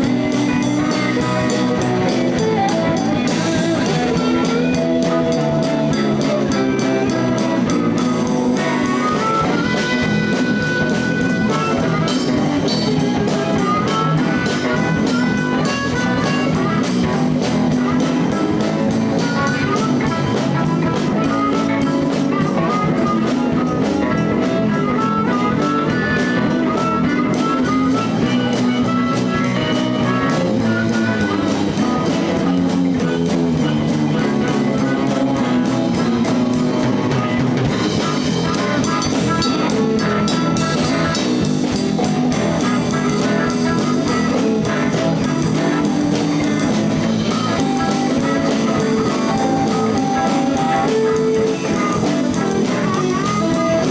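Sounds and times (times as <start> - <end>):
bass: 0.0 - 53.9
drum kit: 0.0 - 53.9
electric guitar: 0.0 - 53.9.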